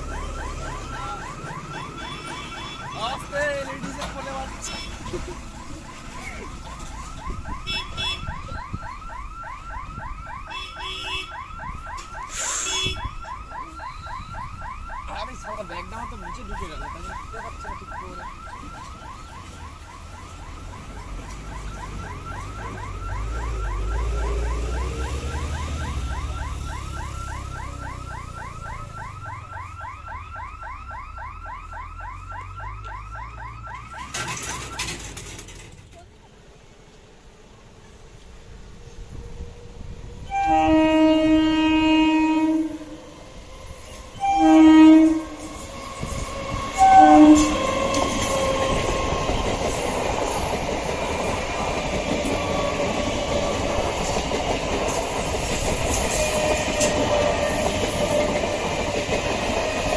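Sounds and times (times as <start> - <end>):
electronic warning siren whooping: 0.0 - 35.1, 39.1 - 59.9.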